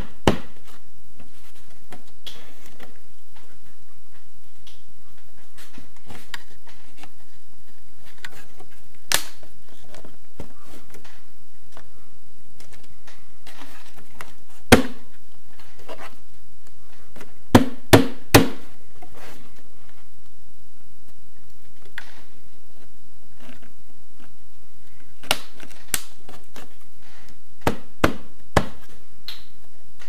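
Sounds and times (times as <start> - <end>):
rustling and handling noise: 0.0 - 17.6, 18.3 - 30.0.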